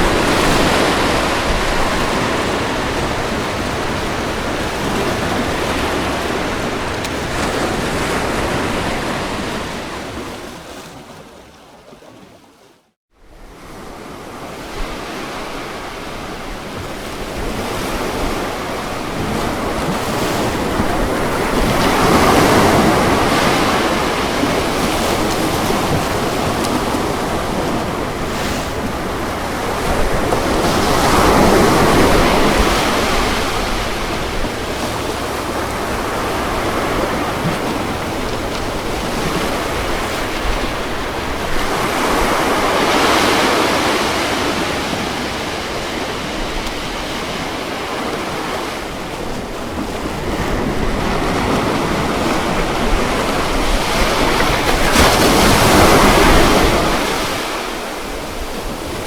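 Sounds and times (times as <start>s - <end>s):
ocean waves breaking on beach: 0.0s - 12.6s, 13.2s - 59.0s.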